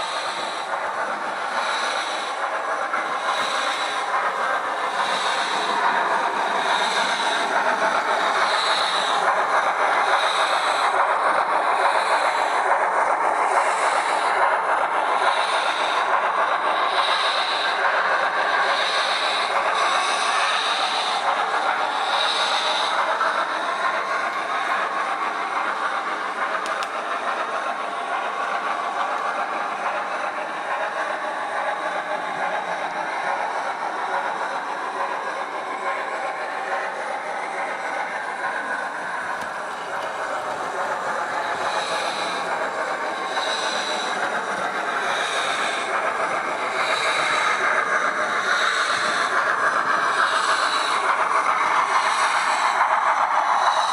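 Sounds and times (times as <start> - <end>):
model locomotive exhaust chuffs: 0.0 - 53.9
model train running on track: 0.0 - 53.9.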